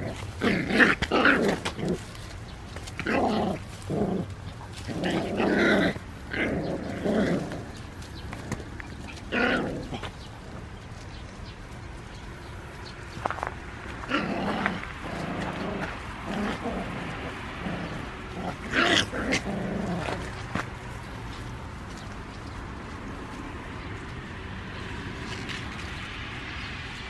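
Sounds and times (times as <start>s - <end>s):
puppies growling: 0.0s - 26.2s.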